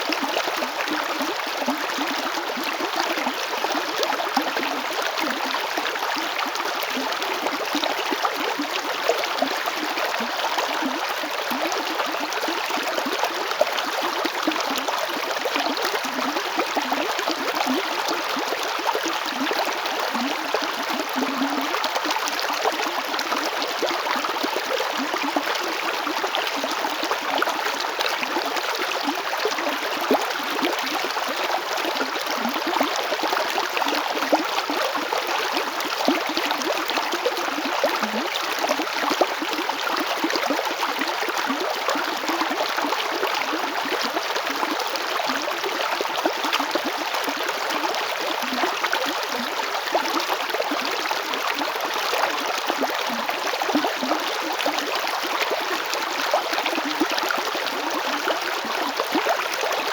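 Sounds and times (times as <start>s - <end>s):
river water flowing over stones: 0.0s - 59.9s.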